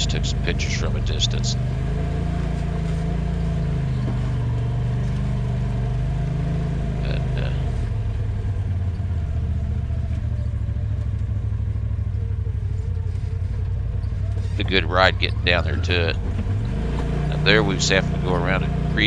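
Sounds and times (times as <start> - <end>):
utv engine running: 0.0 - 19.0.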